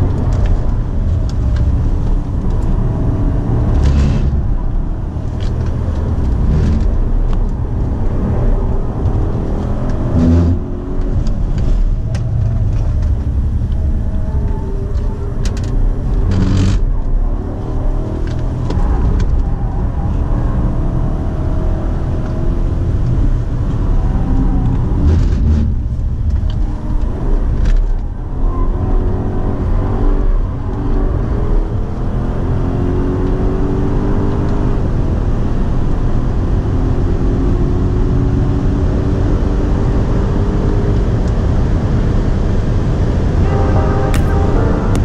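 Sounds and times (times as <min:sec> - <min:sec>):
tyre and wind noise: 0:00.0 - 0:43.5
car engine accelerating and braking: 0:00.0 - 0:45.0.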